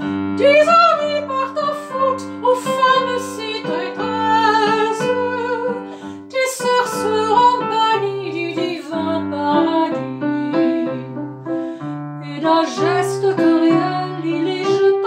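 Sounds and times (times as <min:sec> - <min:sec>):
piano chords: 0:00.0 - 0:15.0
woman singing: 0:00.1 - 0:11.3, 0:12.2 - 0:15.0.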